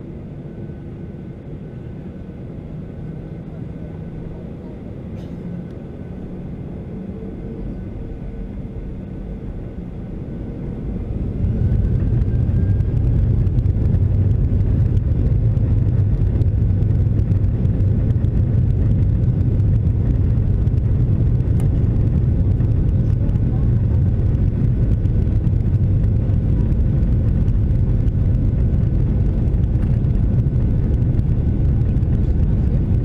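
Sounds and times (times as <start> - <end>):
engine spooling up whine: 0.0 - 33.0
jet engines rumbling in cabin: 0.0 - 33.0.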